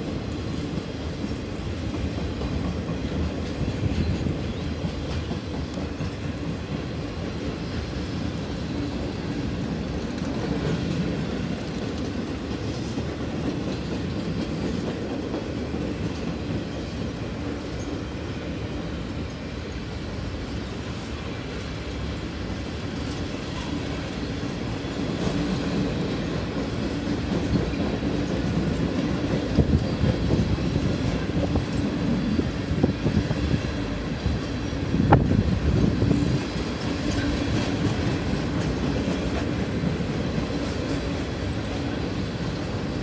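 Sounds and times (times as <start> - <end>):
freight train rolling past: 0.0 - 43.0.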